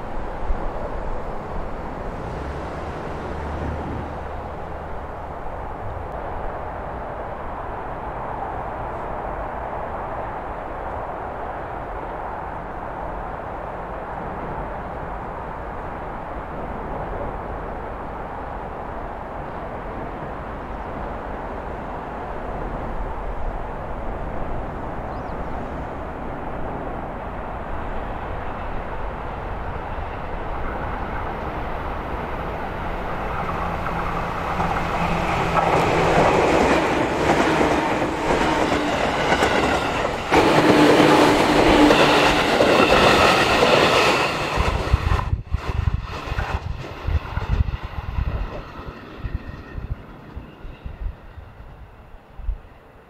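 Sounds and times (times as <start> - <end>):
electric train passing: 0.0 - 53.0.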